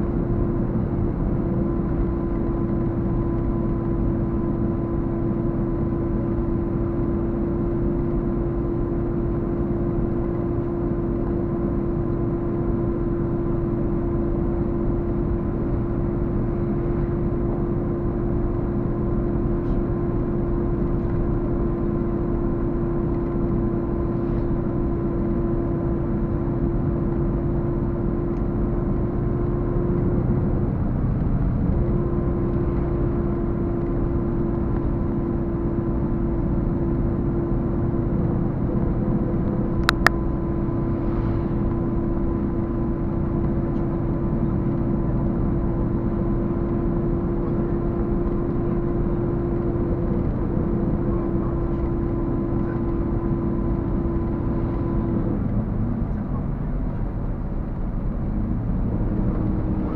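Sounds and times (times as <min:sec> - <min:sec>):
vehicle engine and road drone: 0:00.0 - 0:59.9.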